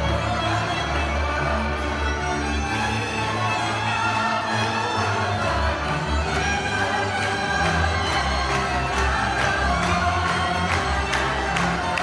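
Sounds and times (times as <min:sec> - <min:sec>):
fiddles playing dance music: 0:00.0 - 0:12.0.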